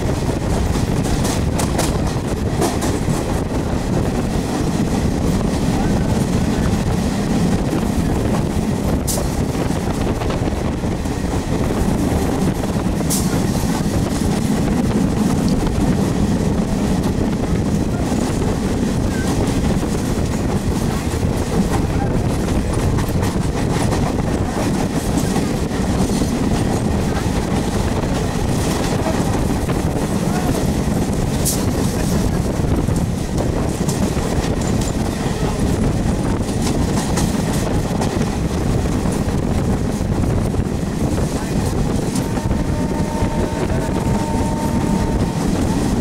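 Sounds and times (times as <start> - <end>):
train wheels on rails: 0.0 - 46.0.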